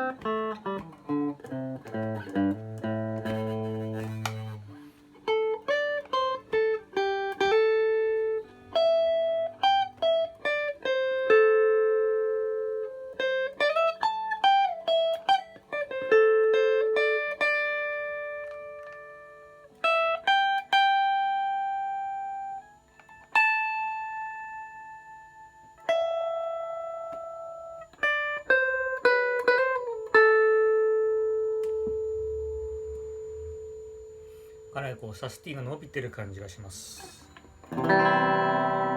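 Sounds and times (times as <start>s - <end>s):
clean electric guitar: 0.0s - 38.9s.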